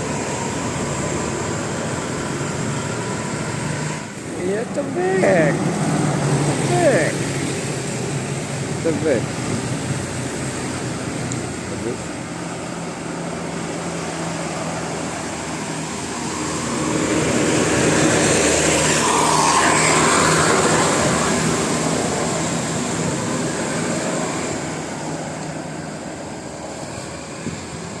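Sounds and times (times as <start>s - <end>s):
vehicle driving past: 0.0s - 26.0s.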